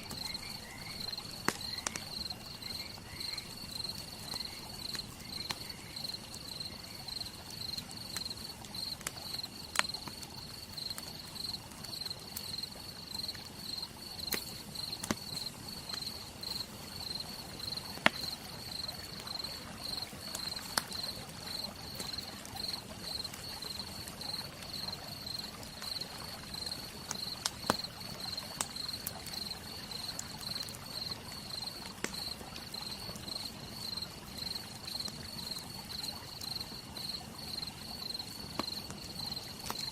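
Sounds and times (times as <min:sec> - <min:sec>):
campfire crackling and popping: 0:00.0 - 0:39.9
insects chirping: 0:00.0 - 0:39.9.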